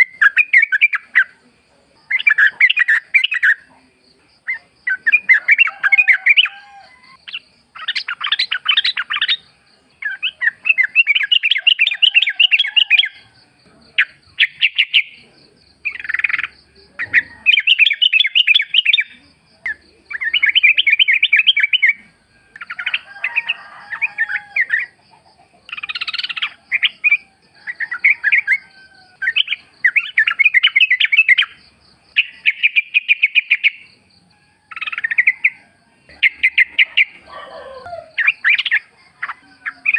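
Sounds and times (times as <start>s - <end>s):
bird chattering song: 0.0s - 34.0s, 34.7s - 39.9s.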